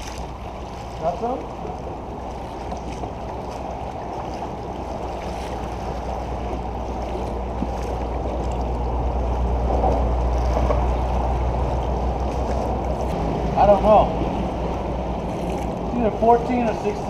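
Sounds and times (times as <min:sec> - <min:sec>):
water lapping against hull: 0:00.0 - 0:17.0
wind rumbling on microphone: 0:00.0 - 0:17.0.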